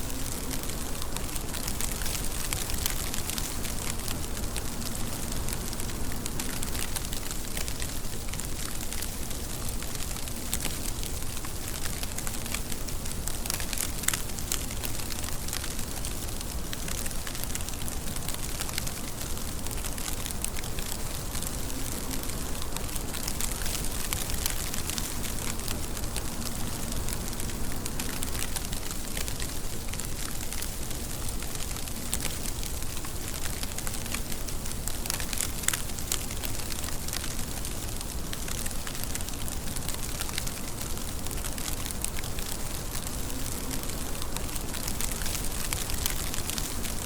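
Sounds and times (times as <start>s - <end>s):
raindrops ticking on surface: 0.0s - 47.0s
steady rain hiss: 0.0s - 47.0s.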